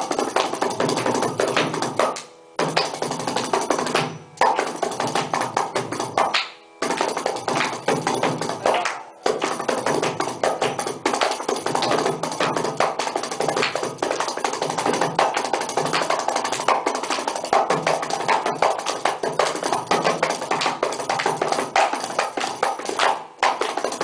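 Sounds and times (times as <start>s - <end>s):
frame drum with jingle: 0.0s - 24.0s.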